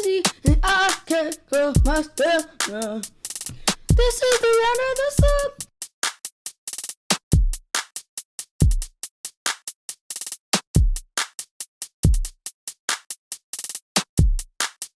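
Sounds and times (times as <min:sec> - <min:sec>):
crisp hi-hat ticks: 0:00.0 - 0:14.9.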